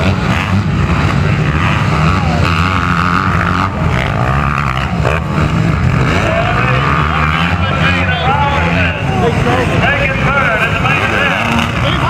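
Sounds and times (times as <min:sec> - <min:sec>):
dirt bike engines racing: 0:00.0 - 0:12.0.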